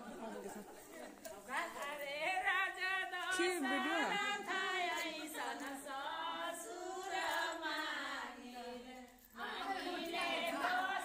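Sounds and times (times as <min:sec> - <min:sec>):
women singing without instruments: 0:01.5 - 0:11.0.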